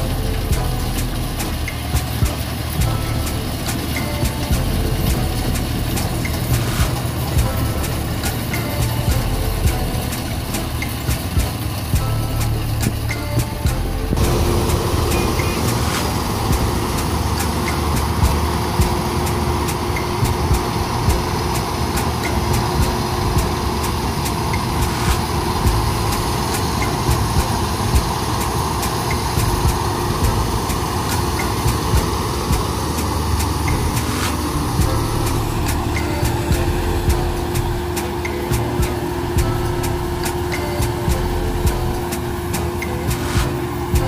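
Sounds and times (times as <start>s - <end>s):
combine harvester engine drone: 0.0s - 44.0s
machinery clicks and rattles: 0.0s - 44.0s
steady mechanical whine: 0.0s - 44.0s.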